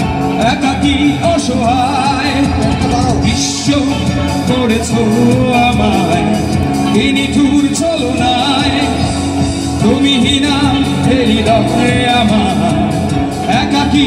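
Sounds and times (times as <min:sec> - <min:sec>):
instrumental backing: 0:00.0 - 0:14.0
person singing: 0:00.0 - 0:14.0.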